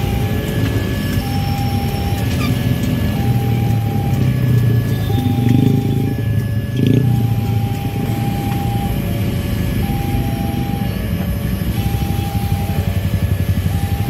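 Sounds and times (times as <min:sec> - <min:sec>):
idling motorcycles and cars: 0:00.0 - 0:14.0
level crossing alarm beeps: 0:00.0 - 0:14.0.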